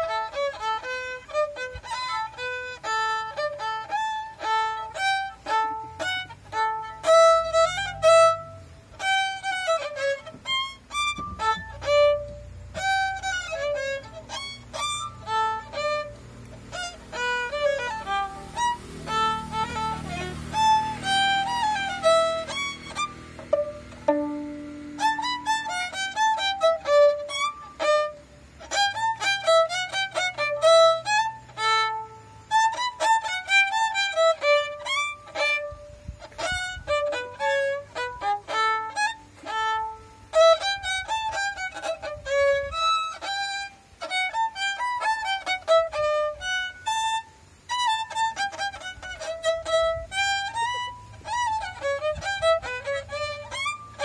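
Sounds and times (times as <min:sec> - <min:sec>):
solo violin melody: 0:00.0 - 0:54.0.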